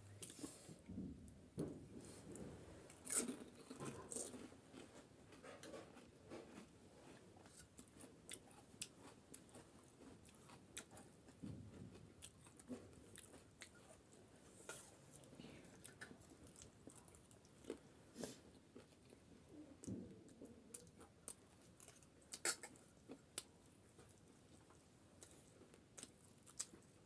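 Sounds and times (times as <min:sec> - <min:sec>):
chewing and crunching snacks: 0:02.9 - 0:27.0.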